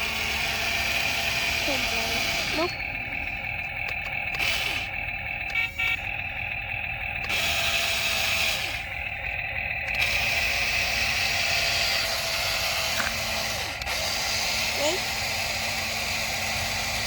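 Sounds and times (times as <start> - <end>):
toy excavator motor whine: 0.0 - 17.0.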